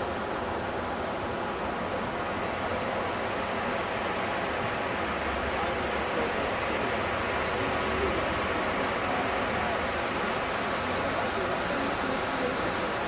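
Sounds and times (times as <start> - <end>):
water falling hiss: 0.0 - 13.0.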